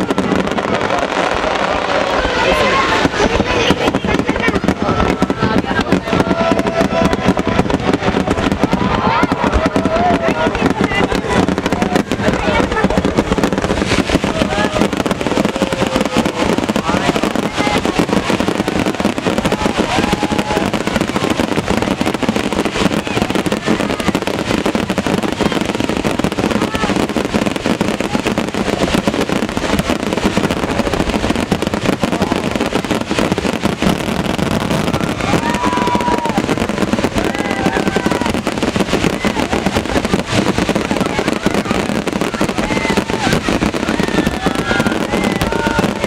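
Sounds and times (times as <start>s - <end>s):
crowd voices: 0.0s - 46.0s
fireworks bangs and crackling: 0.0s - 46.0s.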